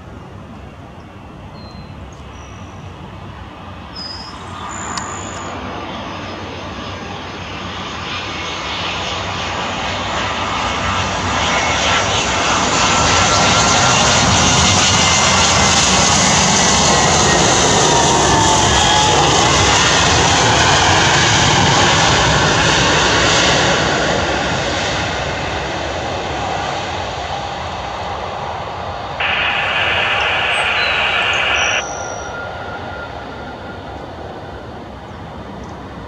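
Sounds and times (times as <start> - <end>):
jet engine whine and rumble: 0.0 - 36.0.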